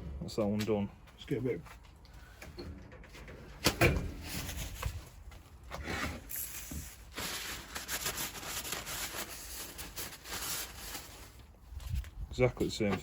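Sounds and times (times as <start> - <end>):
rustling and scraping: 0.4 - 13.0.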